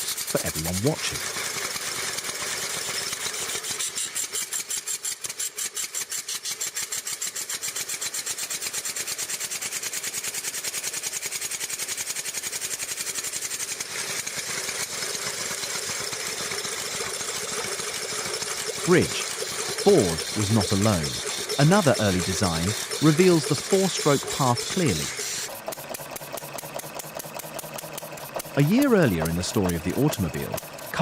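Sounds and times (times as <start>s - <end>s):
small gasoline engine running: 0.0s - 31.0s.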